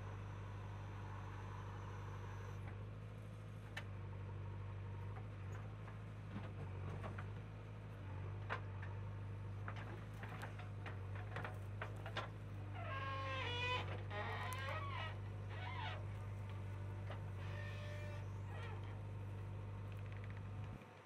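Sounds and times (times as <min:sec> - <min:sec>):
diesel engine humming: 0:00.0 - 0:21.0.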